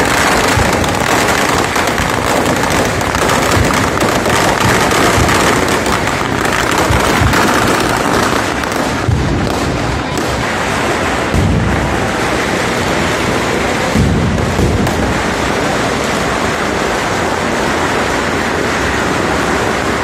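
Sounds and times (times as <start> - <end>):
sharp firework bang: 0.0 - 16.8
firecrackers crackling bangs: 0.0 - 20.0.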